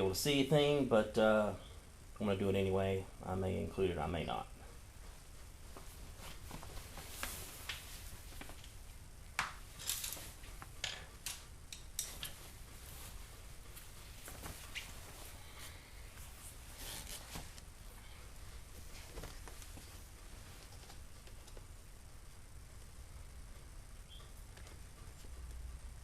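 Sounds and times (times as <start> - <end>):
faint rustling: 4.4 - 25.6.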